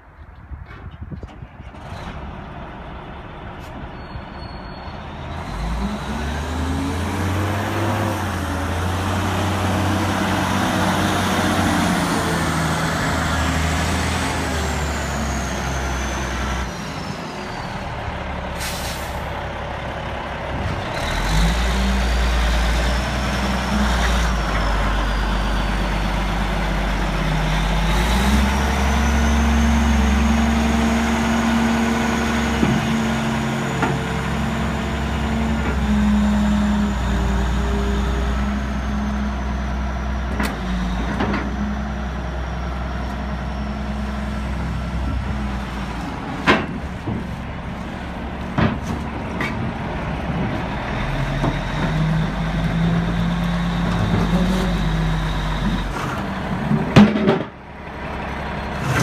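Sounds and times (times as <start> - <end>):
wheel loader diesel engine revving: 1.8 - 59.0.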